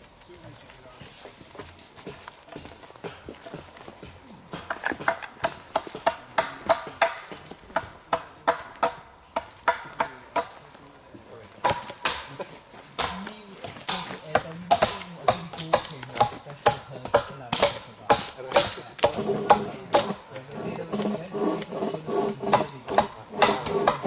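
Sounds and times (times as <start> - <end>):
hatchet chopping wood: 2.5 - 10.6, 11.6 - 24.0.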